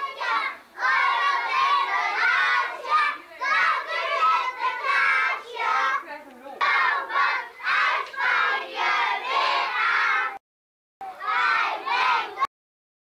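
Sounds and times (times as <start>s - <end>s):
children singing in unison: 0.0s - 6.0s, 6.6s - 10.4s, 11.0s - 12.5s.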